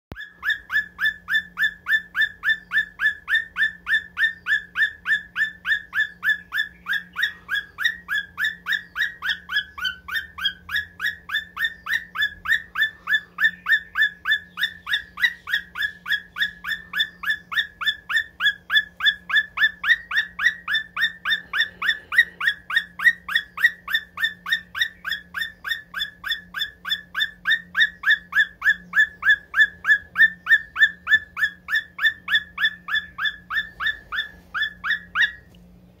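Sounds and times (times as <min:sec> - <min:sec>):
cockatiel chirping: 0:00.1 - 0:35.6.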